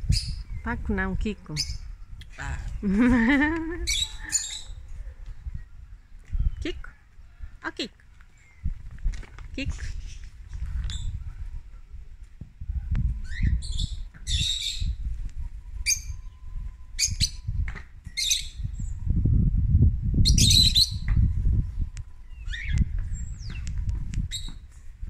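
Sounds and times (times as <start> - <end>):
birds chirping and squawking: 0.0 - 9.0, 9.6 - 11.8, 13.2 - 15.1, 15.7 - 19.0, 20.2 - 24.8.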